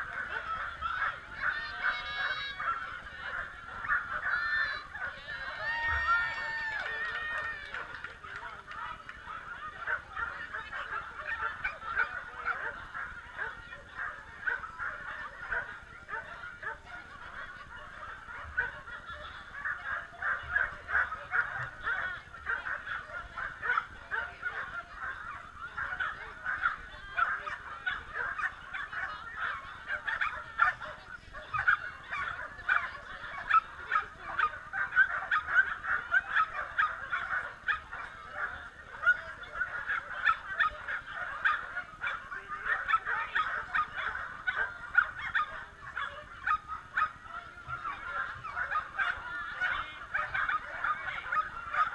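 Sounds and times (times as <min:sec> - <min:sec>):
many dogs barking: 0:00.0 - 0:51.9.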